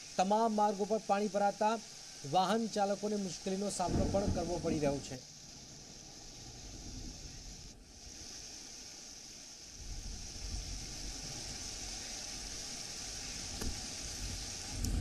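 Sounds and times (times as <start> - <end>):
rain on a flooded street: 0.0 - 15.0.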